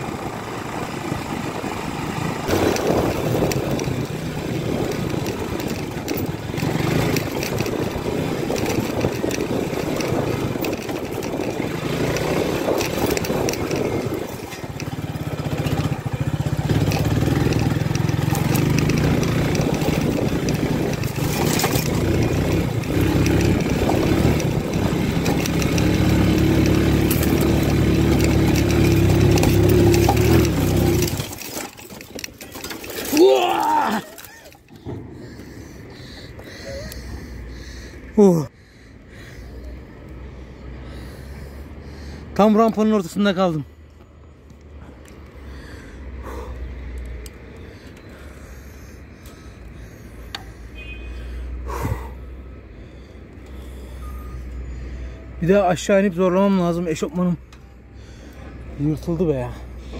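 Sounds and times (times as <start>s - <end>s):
motorcycle engine under load: 0.0s - 38.5s, 41.7s - 59.9s.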